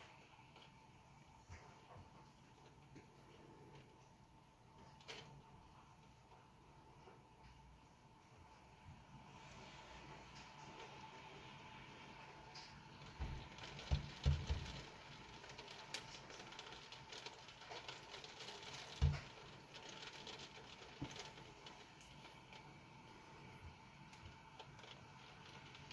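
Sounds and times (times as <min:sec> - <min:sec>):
rain pattering on a window: 0:00.0 - 0:25.9.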